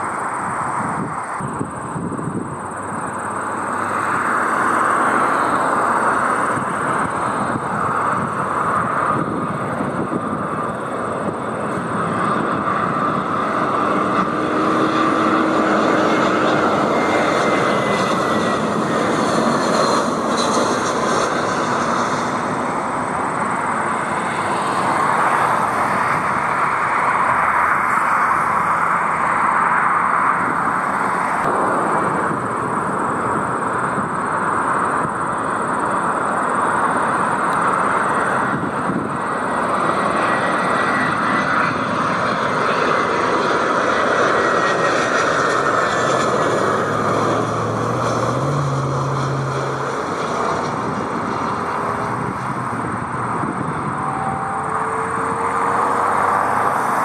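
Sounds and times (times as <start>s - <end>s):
jet engines rushing with whine: 0.0s - 57.0s.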